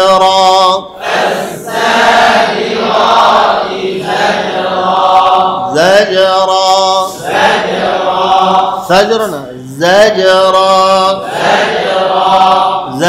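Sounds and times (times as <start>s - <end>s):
group chanting in unison: 0.0s - 9.1s, 9.8s - 13.0s.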